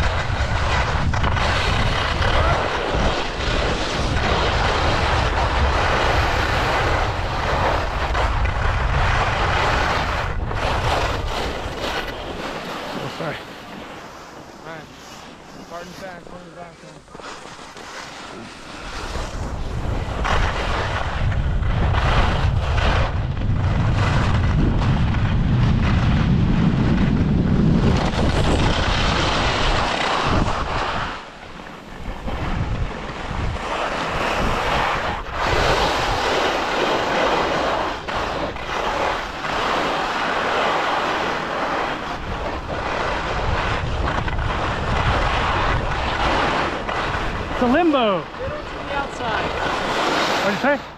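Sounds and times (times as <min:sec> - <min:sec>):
wind buffeting microphone: 0:00.0 - 0:17.6, 0:18.3 - 0:50.9
ski edges scraping snow: 0:00.0 - 0:50.9.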